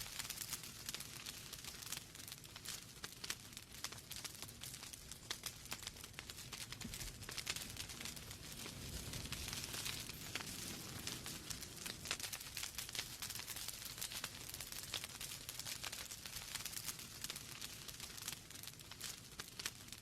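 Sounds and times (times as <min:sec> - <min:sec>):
log fire crackling: 0:00.0 - 0:20.0
low rumble of flames: 0:00.0 - 0:20.0.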